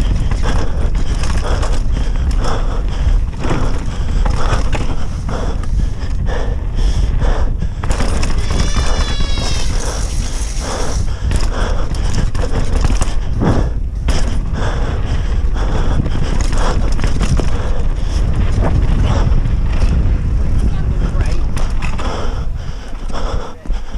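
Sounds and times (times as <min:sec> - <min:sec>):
bike chain and frame rattling: 0:00.0 - 0:23.4
tyres rumbling on loose soil: 0:00.0 - 0:23.9
wind buffeting microphone: 0:00.0 - 0:23.9.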